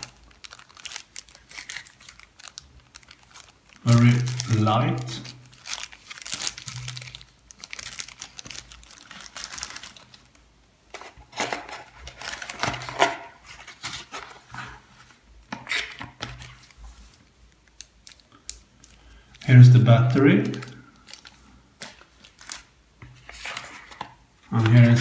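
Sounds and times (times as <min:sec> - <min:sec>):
cardboard packaging rustling: 0:00.0 - 0:18.3, 0:20.0 - 0:25.0
plastic wrap crinkling: 0:00.0 - 0:25.0.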